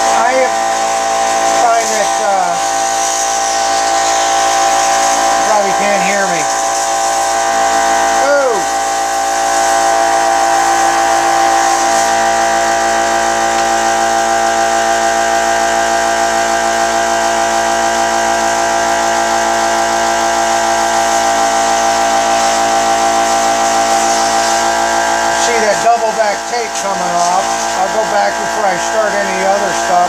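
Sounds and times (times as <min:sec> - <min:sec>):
scroll saw cutting wood: 0:00.0 - 0:30.0.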